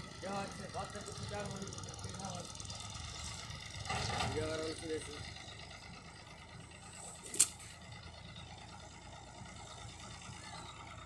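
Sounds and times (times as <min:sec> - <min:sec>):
distant tractor engine running: 0:00.0 - 0:11.0.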